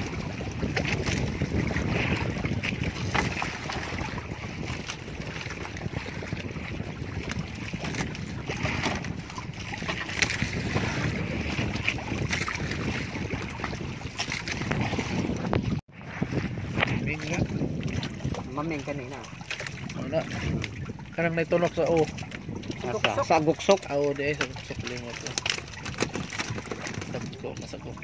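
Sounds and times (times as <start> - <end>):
water sloshing and splashing: 0.0 - 28.0
wind buffeting microphone: 0.0 - 28.0.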